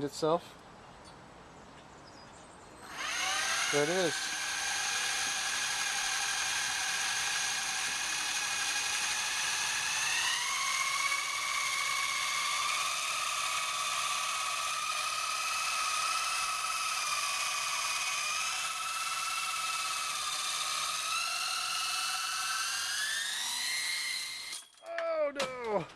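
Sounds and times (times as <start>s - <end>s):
toy helicopter motors whining: 2.8s - 25.0s.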